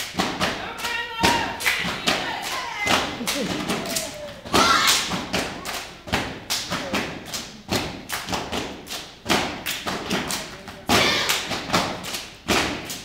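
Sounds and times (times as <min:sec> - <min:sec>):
body slaps and claps: 0:00.0 - 0:13.0.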